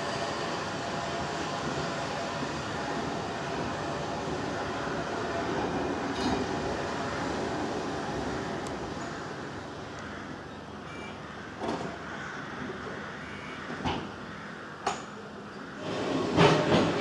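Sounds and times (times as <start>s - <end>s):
tram wheels rumbling on rails: 0.0s - 10.8s, 11.4s - 17.0s.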